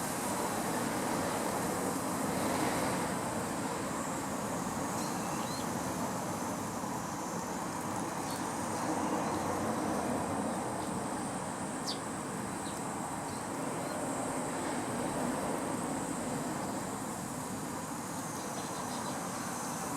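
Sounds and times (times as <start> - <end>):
distant traffic hum: 0.0 - 19.9
high insect buzz: 2.0 - 19.9.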